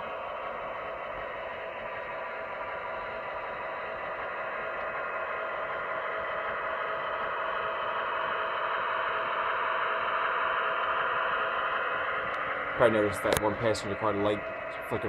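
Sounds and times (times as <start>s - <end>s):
model train rolling rumble: 0.0s - 15.0s.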